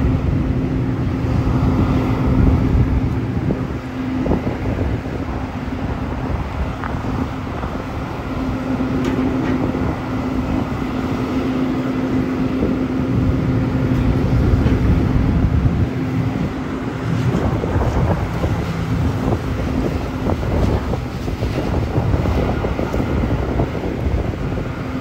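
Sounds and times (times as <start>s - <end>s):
heavy equipment engine running: 0.0s - 25.0s
wind buffeting microphone: 0.0s - 25.0s.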